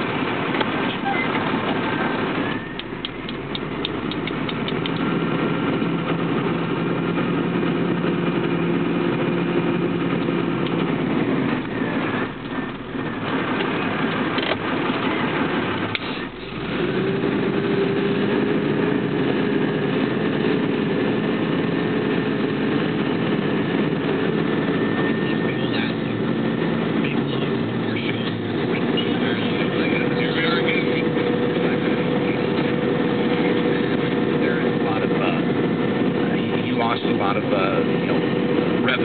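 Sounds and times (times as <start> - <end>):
large vehicle engine running: 0.0 - 39.0.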